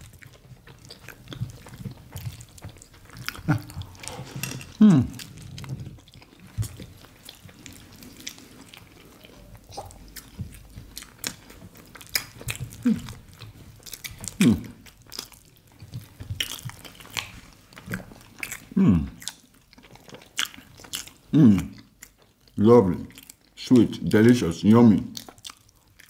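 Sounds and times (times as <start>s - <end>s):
people chewing: 0.0s - 26.0s.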